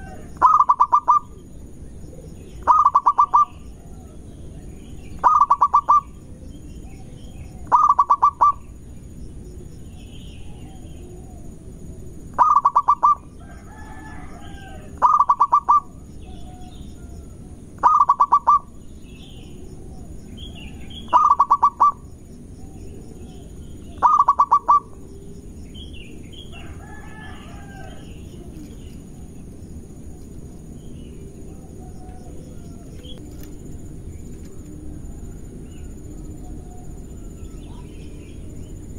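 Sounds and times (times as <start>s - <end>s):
dove cooing: 0.0s - 25.5s, 26.1s - 30.5s, 31.1s - 38.9s
small birds chirping: 0.0s - 34.8s.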